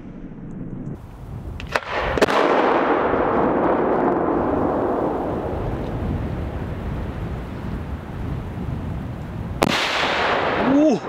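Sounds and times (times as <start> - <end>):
rolling rumble of firework shell: 0.3 - 10.7
firework sharp cracks: 1.5 - 11.0.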